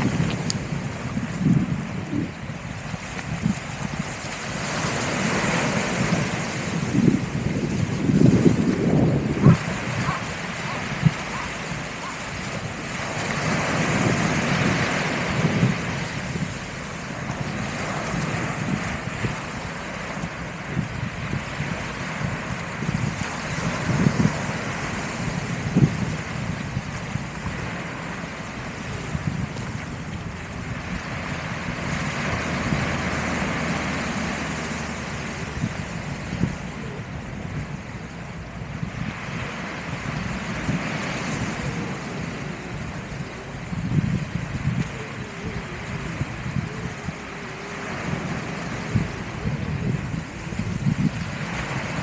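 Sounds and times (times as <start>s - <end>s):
sea waves washing onto beach: 0.0s - 52.0s
wind buffeting microphone: 0.0s - 52.0s.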